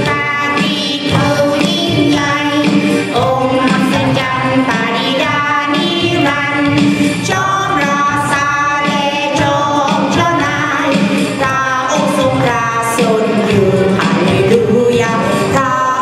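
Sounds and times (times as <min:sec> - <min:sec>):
women singing worship song: 0:00.0 - 0:16.0.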